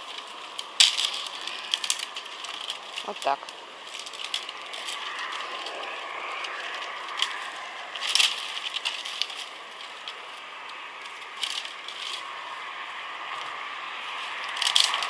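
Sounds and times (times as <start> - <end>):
steady background hiss: 0.0 - 15.0
twigs snapping: 0.0 - 15.0.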